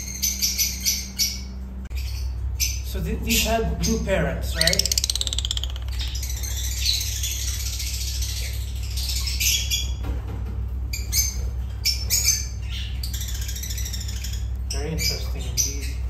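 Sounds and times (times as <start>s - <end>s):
lovebirds chattering and squawking: 0.0s - 10.0s, 10.7s - 16.0s.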